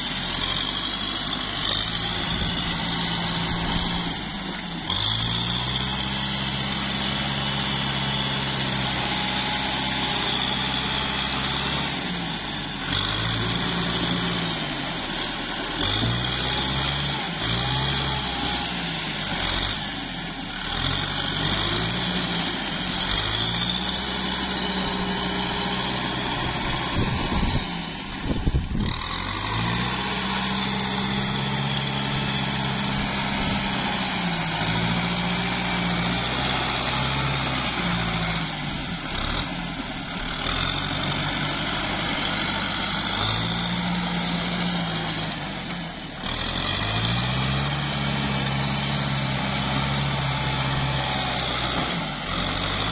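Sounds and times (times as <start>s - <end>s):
tractor diesel engine revving: 0.0s - 52.9s.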